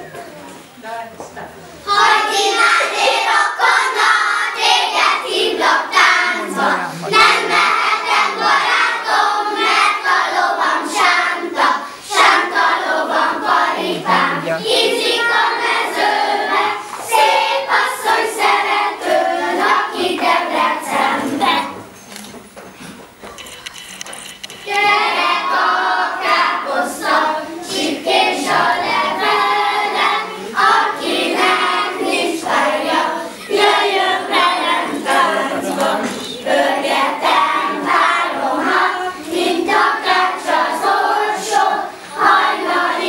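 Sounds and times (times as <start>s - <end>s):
children singing in unison: 1.9s - 21.9s, 24.6s - 43.0s.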